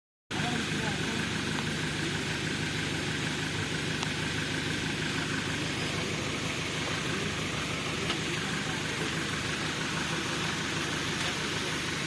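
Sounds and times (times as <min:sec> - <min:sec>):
engine running: 0:00.3 - 0:12.0.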